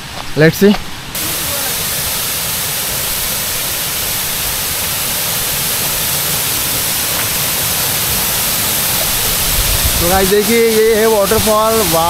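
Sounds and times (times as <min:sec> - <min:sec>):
waterfall rushing: 0:01.0 - 0:12.0.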